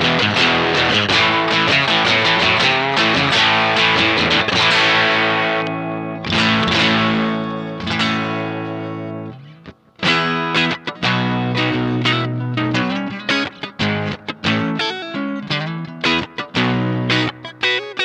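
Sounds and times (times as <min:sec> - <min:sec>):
distorted electric guitar: 0:00.0 - 0:18.0.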